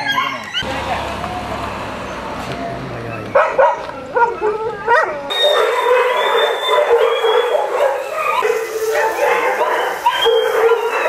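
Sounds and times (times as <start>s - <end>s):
dogs barking and whining: 0.0s - 0.7s, 2.6s - 11.0s.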